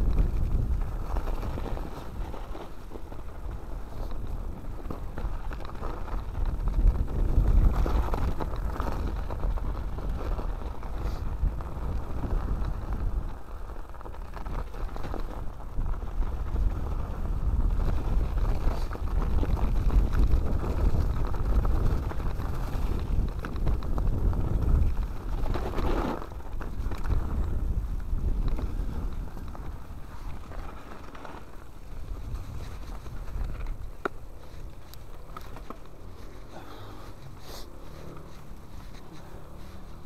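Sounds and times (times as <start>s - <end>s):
tyres rolling over snow: 0.0s - 40.0s
wind on microphone: 0.0s - 40.0s.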